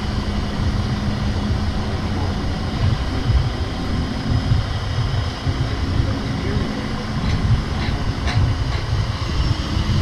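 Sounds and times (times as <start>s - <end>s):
truck engine hum: 0.0s - 10.0s
wind buffeting microphone: 0.0s - 10.0s.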